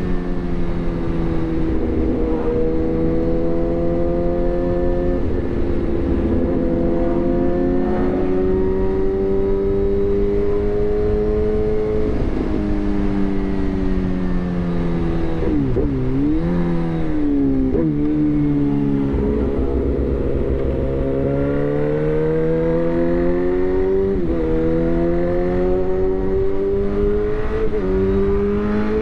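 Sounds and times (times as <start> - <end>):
motorcycle engine revving: 0.0 - 12.2, 12.8 - 29.0.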